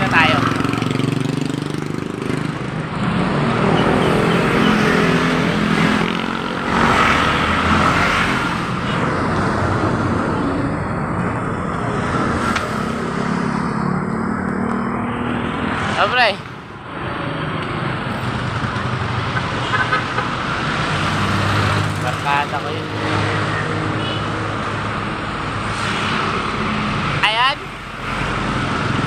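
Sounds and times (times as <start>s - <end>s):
traffic rush: 0.0s - 29.0s
vehicles passing by: 0.0s - 29.0s.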